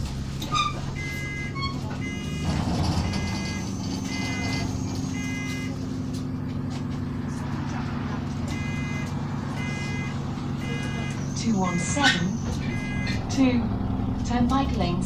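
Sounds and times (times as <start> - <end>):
bus engine running: 0.0 - 15.0
bus warning beeps: 0.4 - 6.1, 8.4 - 15.0.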